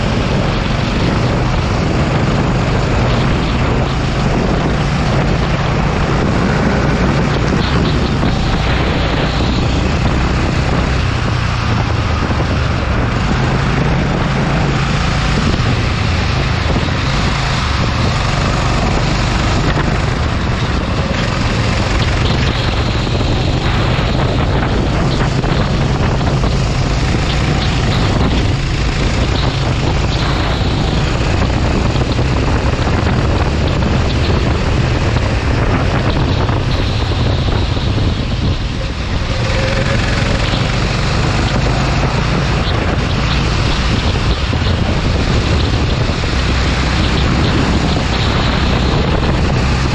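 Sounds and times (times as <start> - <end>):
go-kart engine revving: 0.0 - 49.9
wind buffeting microphone: 0.0 - 49.9.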